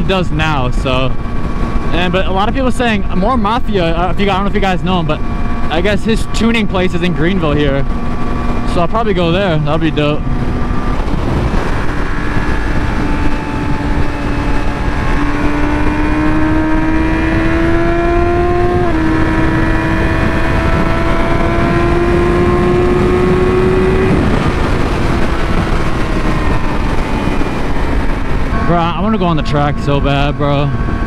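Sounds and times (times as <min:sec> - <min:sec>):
wind rush over microphone: 0:00.0 - 0:31.0
motorcycle engine pulling: 0:03.9 - 0:31.0.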